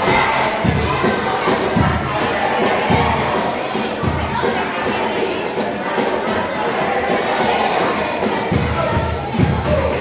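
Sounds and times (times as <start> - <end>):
acoustic guitar: 0.0 - 10.0
cajon drum: 0.0 - 10.0
children singing a carol: 0.0 - 10.0.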